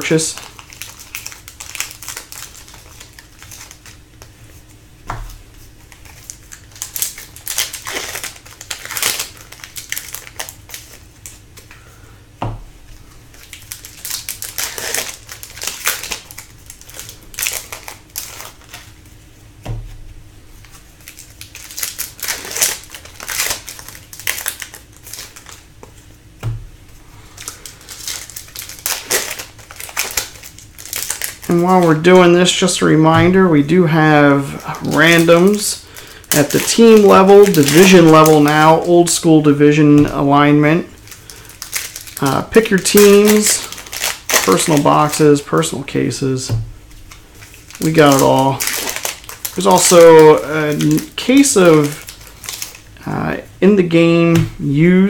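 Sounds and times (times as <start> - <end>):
foil wrappers crinkling and tearing: 0.0 - 12.2, 12.8 - 26.2, 26.9 - 55.0.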